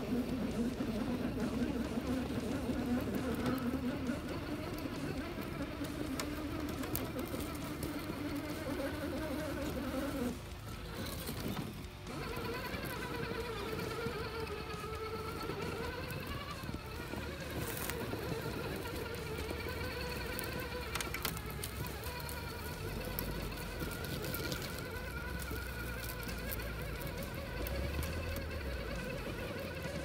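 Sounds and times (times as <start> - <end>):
rc car motor whining: 0.0 - 30.0.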